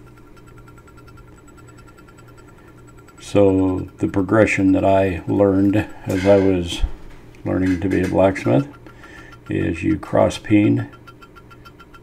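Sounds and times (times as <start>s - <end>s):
faint fast ticking: 0.0s - 6.6s, 7.3s - 12.0s
background hum: 0.0s - 12.0s.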